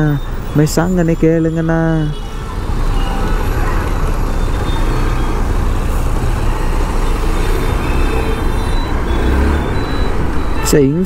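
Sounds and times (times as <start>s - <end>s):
road traffic engines rumbling: 0.0s - 11.0s.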